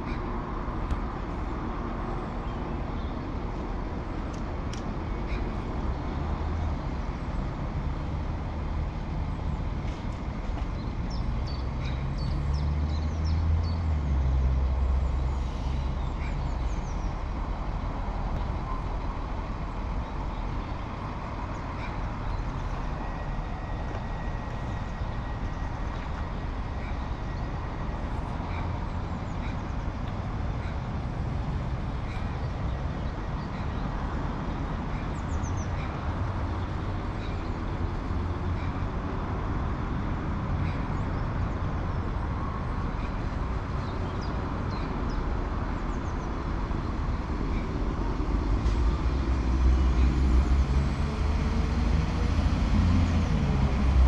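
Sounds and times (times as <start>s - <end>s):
train engine rumble: 0.0s - 54.0s.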